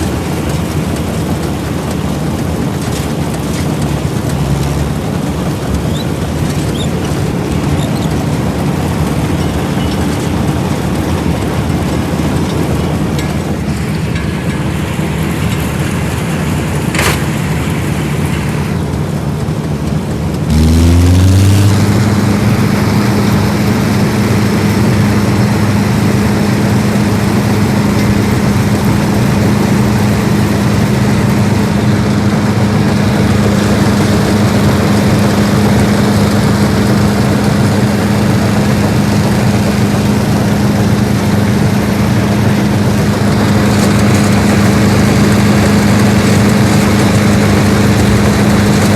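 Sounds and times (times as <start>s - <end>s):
harvesting machine engine running: 0.0s - 48.9s.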